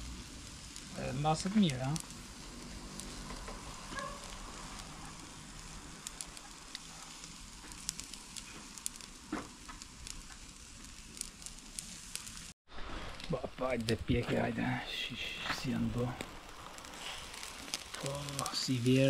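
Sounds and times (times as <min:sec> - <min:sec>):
fire crackles and pops: 0:00.0 - 0:19.0
fish sizzling on a grill: 0:00.0 - 0:19.0.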